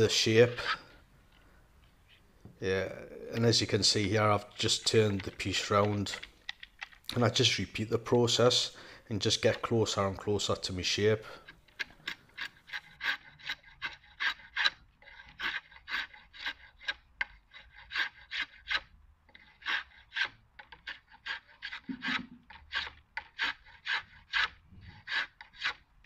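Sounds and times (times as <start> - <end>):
drawknife scraping wood: 0.2 - 0.9, 3.4 - 25.9.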